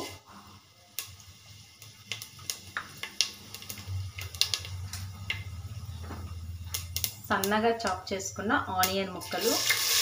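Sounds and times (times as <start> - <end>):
seeds crackling in hot oil: 0.0 - 10.0.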